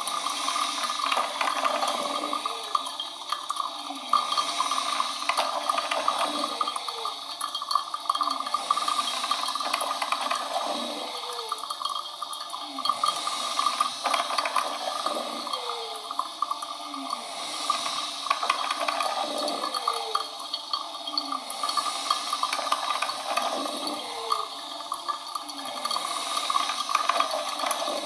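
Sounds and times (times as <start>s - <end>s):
coffee machine gurgling: 0.0s - 28.0s
coffee machine hissing: 0.0s - 28.0s.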